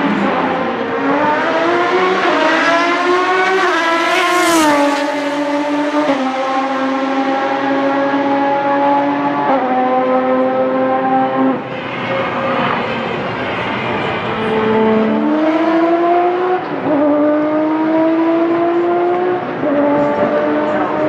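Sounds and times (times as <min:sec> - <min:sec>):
race car accelerating past: 0:00.0 - 0:21.0.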